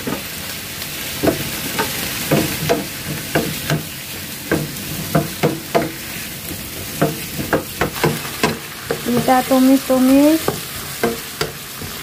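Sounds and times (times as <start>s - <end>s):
food sizzling in hot oil: 0.0s - 12.0s
wooden spatula scraping a pan: 1.0s - 12.0s.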